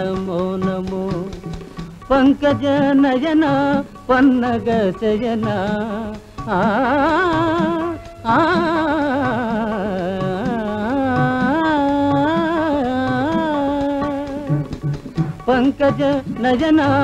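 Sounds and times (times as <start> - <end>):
devotional singing: 0.0 - 17.0.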